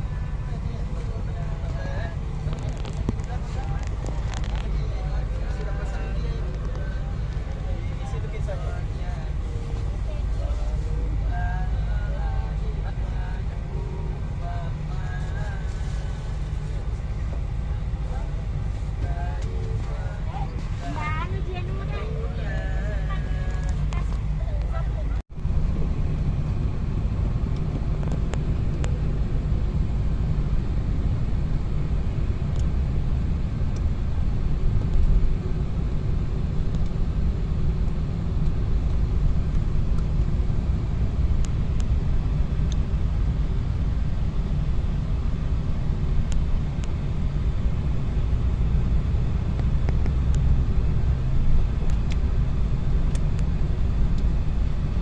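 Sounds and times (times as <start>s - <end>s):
car driving on road: 0.0s - 55.0s.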